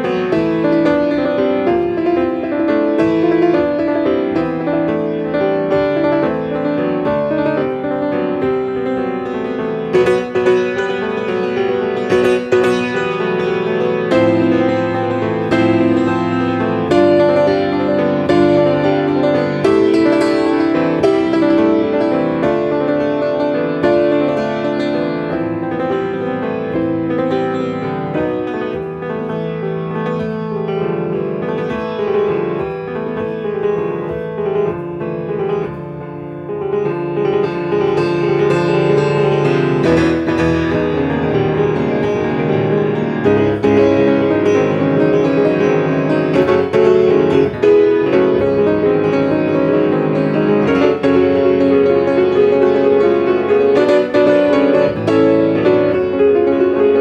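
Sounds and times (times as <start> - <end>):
piano playing quick notes: 0.0 - 57.0.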